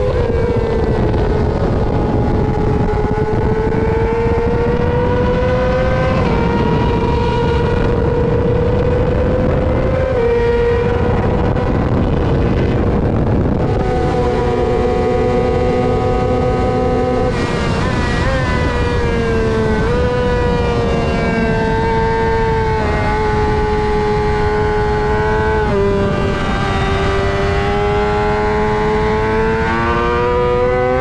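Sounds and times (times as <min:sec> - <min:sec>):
motorcycle engine at high revs: 0:00.0 - 0:31.0
second motorcycle engine: 0:00.0 - 0:31.0
wind rush: 0:00.0 - 0:31.0.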